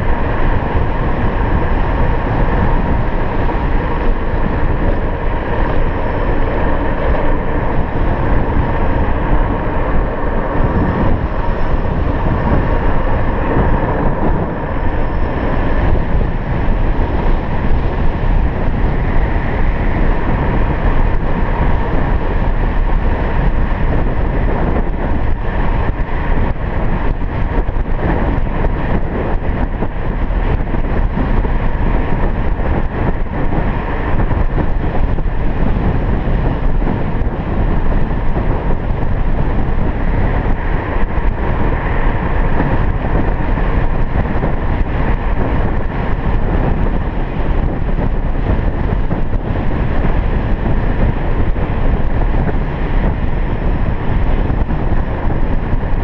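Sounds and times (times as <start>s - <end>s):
scooter tyre noise: 0.0s - 56.0s
wind rush on microphone: 0.0s - 56.0s.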